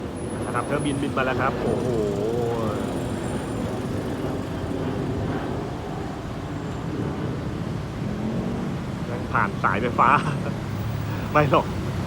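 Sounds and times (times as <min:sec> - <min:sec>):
plane flying low overhead: 0:00.0 - 0:12.0
road traffic: 0:00.0 - 0:12.0.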